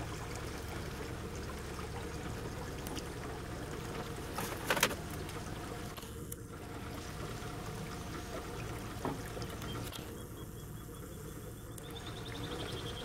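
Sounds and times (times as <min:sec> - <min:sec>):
boat engine low hum: 0:00.0 - 0:13.0
water noise: 0:00.0 - 0:13.0.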